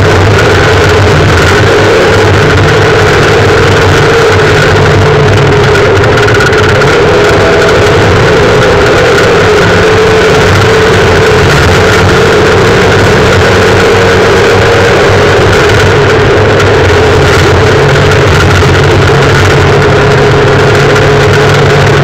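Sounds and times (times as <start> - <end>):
rally car engine running hard: 0.0 - 22.0
tyres on gravel road: 0.0 - 22.0.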